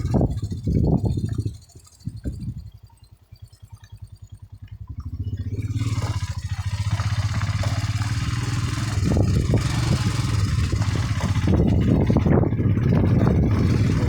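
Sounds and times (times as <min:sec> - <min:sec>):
vehicle engine under load: 0:00.0 - 0:14.0.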